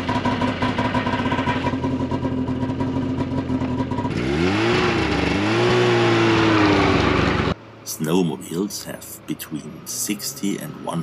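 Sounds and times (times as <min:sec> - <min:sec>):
snowmobile engine: 0:00.0 - 0:11.0.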